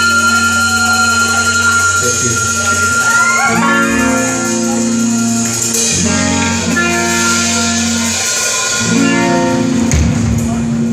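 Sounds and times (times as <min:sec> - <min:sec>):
drums: 0:00.0 - 0:10.9
loud guitar chords: 0:00.0 - 0:10.9.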